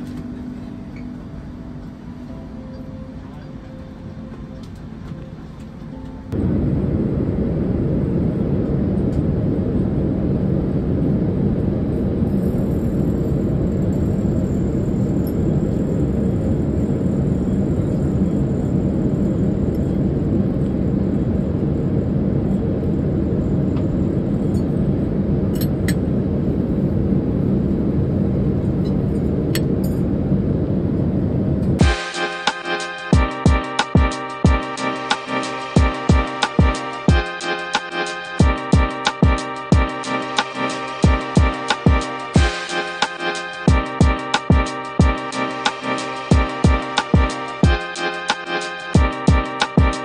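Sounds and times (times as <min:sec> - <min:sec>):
airliner cabin roar: 0:00.0 - 0:50.0.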